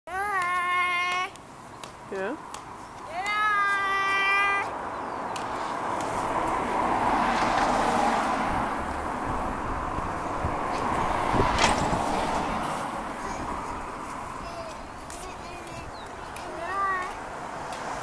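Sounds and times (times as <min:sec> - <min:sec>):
car passing: 0:02.0 - 0:18.0.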